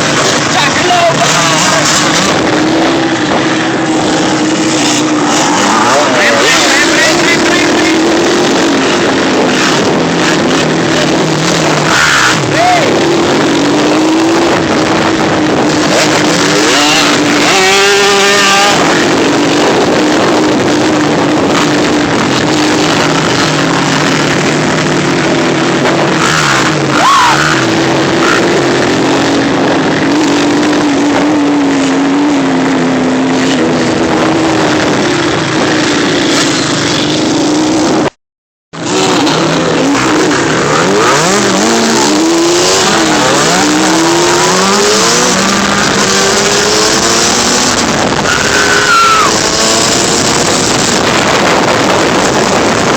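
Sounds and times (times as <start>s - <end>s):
loud rushing noise: 0.0s - 38.2s, 38.8s - 52.9s
off-road engine running: 0.0s - 52.9s.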